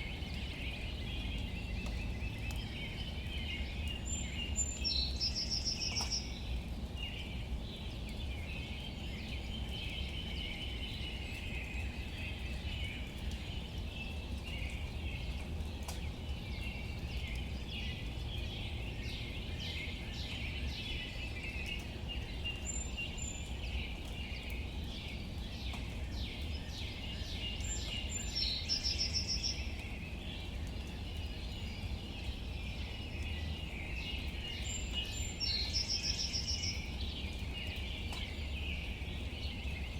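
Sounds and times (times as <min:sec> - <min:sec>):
birds chirping: 0:00.0 - 0:39.9
light rain pattering on leaves: 0:00.0 - 0:39.9.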